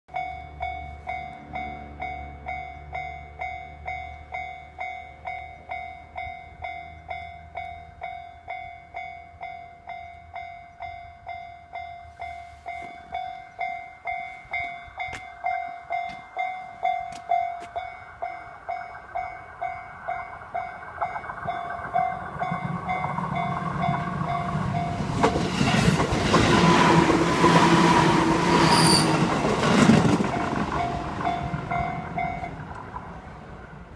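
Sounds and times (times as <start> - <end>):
level crossing alarm bell ringing: 0.1 - 26.1, 30.4 - 32.6
train rumble: 0.1 - 33.9.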